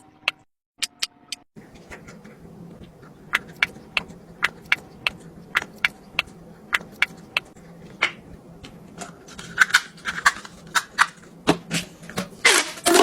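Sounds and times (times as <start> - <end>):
low steady hum: 1.6 - 13.0.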